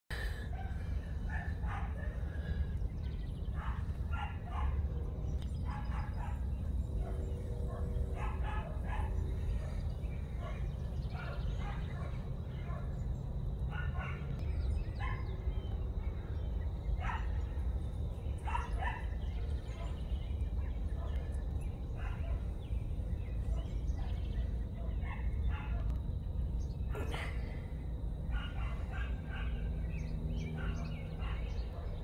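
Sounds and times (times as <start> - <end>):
steady low rumble: 0.1 - 32.0.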